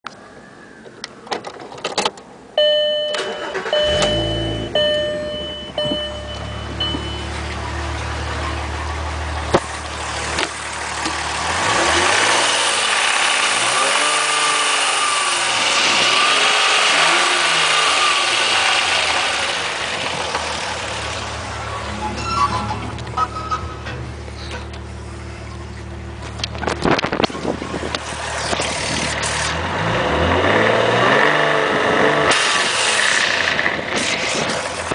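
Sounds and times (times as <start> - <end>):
car engine idling and revving: 2.6 - 34.9.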